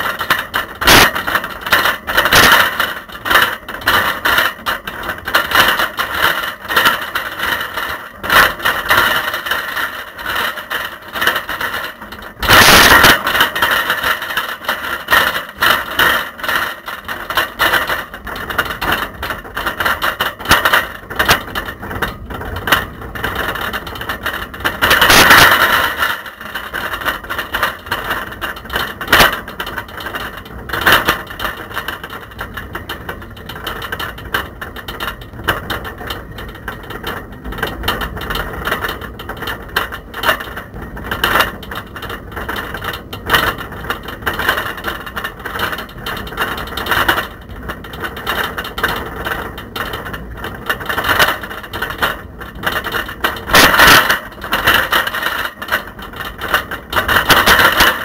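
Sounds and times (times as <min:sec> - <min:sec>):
camera rattling in bicycle basket: 0:00.0 - 0:58.0.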